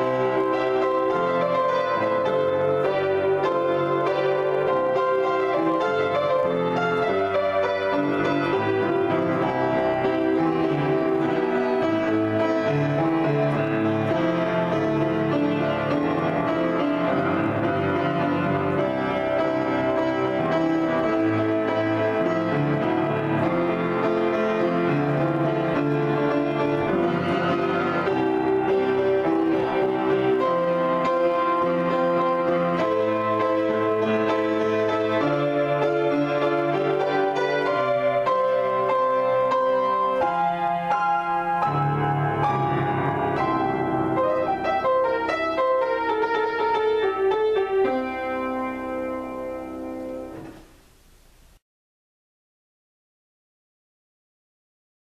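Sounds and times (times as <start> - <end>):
solo piano improvisation: 0.0 - 51.6.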